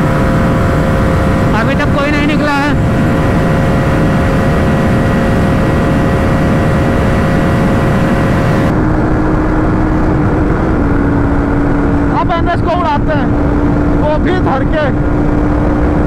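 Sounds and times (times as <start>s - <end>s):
motorcycle engine at high revs: 0.0s - 16.0s
wind rush: 0.0s - 16.0s.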